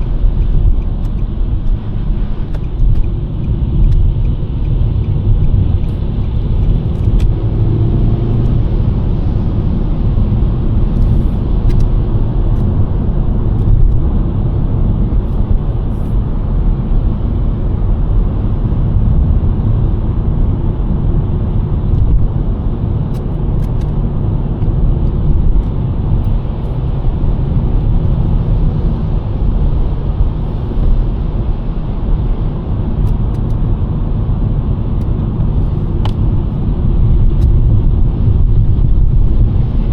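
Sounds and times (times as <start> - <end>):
car driving on snowy road: 0.0 - 39.9.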